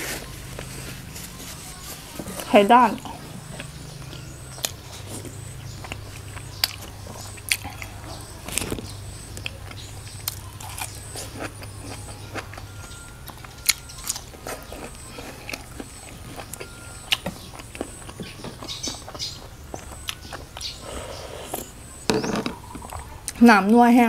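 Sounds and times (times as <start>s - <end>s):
chewing crunchy vegetable: 0.0s - 21.9s.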